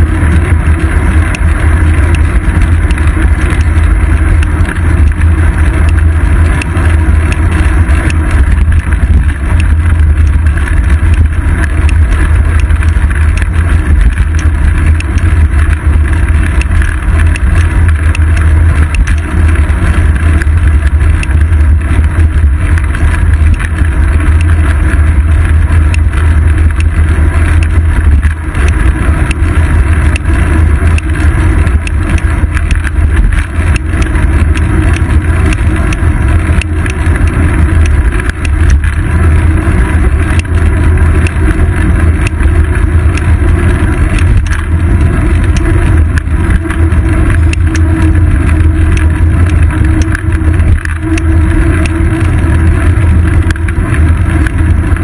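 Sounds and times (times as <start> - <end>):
road vibration rumble: 0.0 - 55.0
wind buffeting microphone: 0.0 - 55.0.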